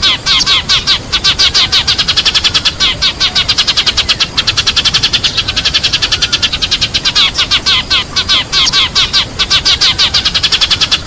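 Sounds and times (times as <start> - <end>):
sparrows chirping rapidly: 0.0 - 11.0.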